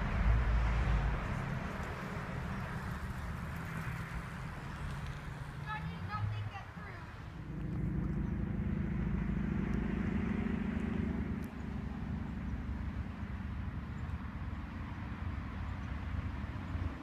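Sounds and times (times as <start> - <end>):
large engine chugging: 0.0 - 17.0.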